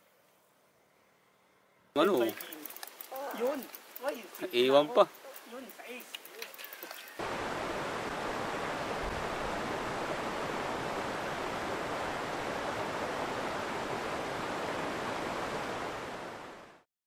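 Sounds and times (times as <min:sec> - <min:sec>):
stream water flowing: 0:02.0 - 0:16.8.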